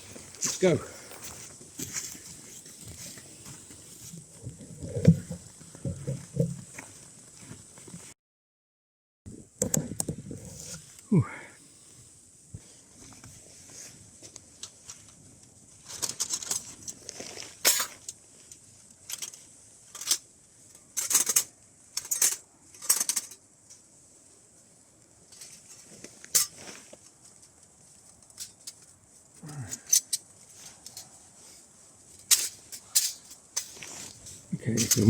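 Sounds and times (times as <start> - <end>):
dry plant material scraping and crackling: 0.0 - 8.1, 12.6 - 22.8, 23.4 - 35.0.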